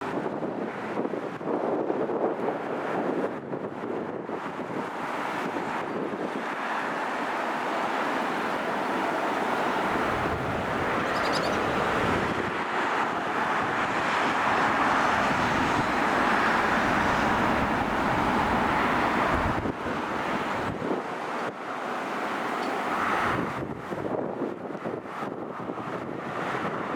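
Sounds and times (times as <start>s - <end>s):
road noise: 0.0s - 26.9s
wind buffeting microphone: 0.0s - 26.9s.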